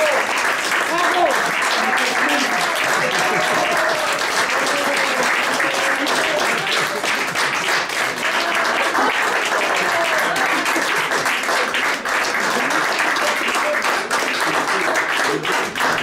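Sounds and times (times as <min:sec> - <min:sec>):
small audience applauding: 0:00.0 - 0:16.0
voices over clapping: 0:00.0 - 0:16.0.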